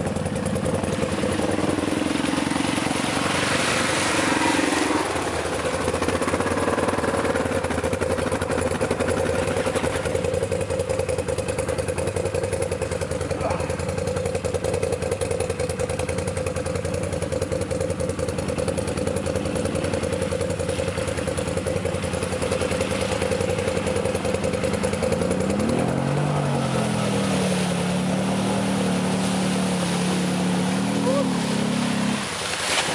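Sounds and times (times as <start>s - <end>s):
quad bike engine revving: 0.0s - 32.9s
water splashing: 0.0s - 32.9s.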